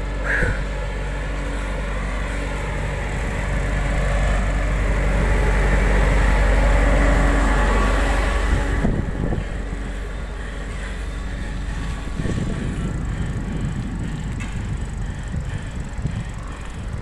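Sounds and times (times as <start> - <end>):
fuller noise with steady hum: 0.0 - 17.0
wind buffeting microphone: 0.0 - 17.0.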